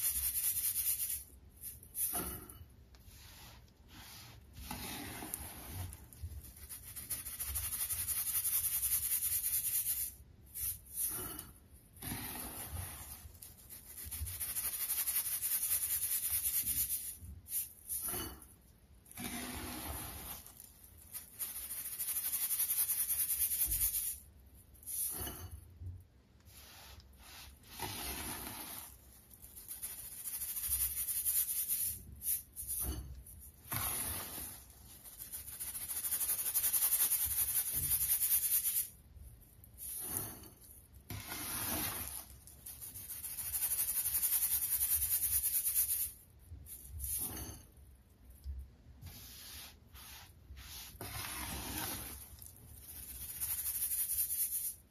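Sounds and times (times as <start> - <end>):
powder rasping through metal sieve: 0.0 - 25.5, 26.4 - 38.9, 39.8 - 46.2, 49.1 - 54.9.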